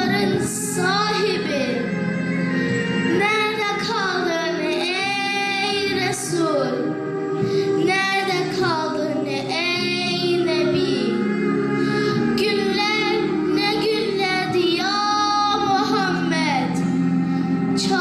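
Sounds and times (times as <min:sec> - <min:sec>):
girl singing into microphone: 0:00.0 - 0:02.0, 0:02.6 - 0:18.0
sustained backing chords: 0:00.0 - 0:18.0.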